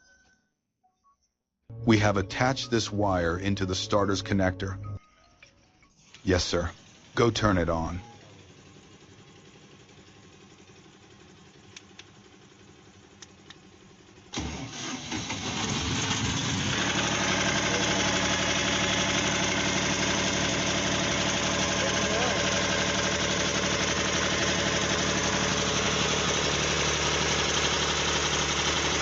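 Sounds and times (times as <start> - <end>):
diesel generator starting and running: 1.7 - 5.0, 6.0 - 29.0.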